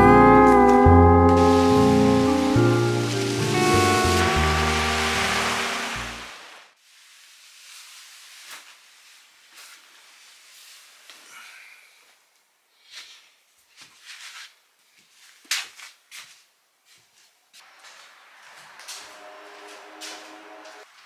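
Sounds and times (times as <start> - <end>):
faint steady hiss: 0.0 - 13.8, 16.6 - 21.0.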